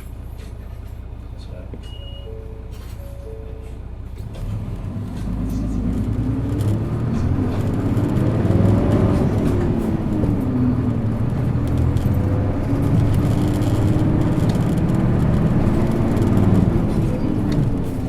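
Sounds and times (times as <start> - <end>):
bus diesel engine accelerating: 0.0 - 18.0.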